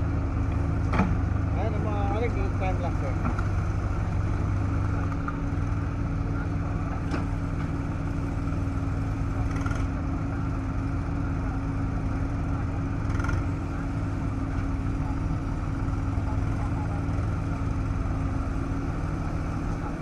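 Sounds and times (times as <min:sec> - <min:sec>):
diesel engine running steadily: 0:00.0 - 0:20.0.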